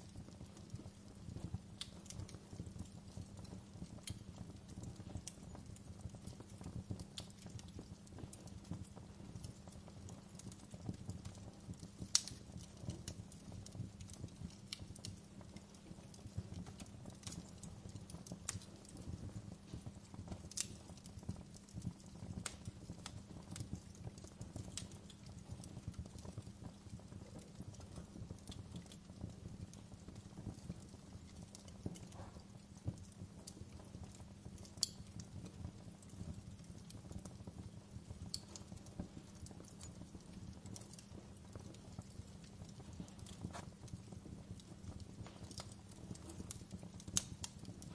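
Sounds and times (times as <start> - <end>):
fire low rumble: 0.0 - 47.9
logs crackling and popping: 0.0 - 47.9.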